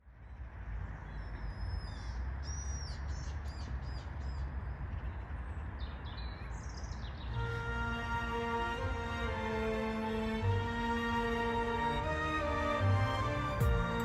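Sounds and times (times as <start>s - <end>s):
low outdoor rumble: 0.0s - 14.0s
birds chirping: 0.2s - 14.0s.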